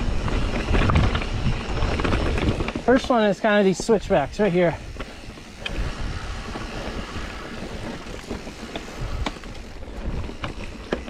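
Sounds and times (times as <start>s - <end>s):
bike clicks and rattles: 0.0s - 11.0s
tyres rolling over dirt trail: 0.0s - 11.0s
wind rumbling on microphone: 0.0s - 11.0s.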